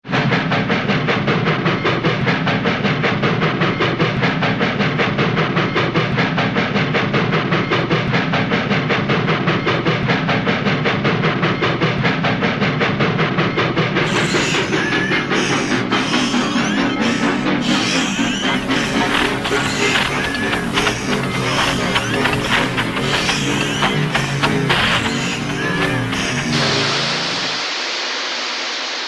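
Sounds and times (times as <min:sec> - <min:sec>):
cartoon steam train chugging: 0:00.0 - 0:28.5.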